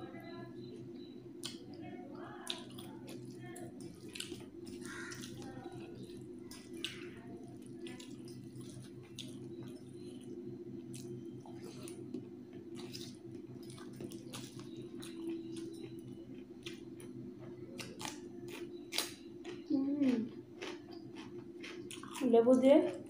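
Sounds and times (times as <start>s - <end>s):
steady low hum: 0.0s - 23.0s
chewing: 2.4s - 23.0s.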